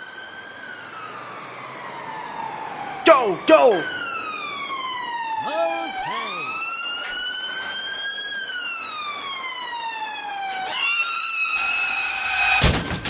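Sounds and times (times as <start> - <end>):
electronic police siren wailing: 0.0 - 12.4.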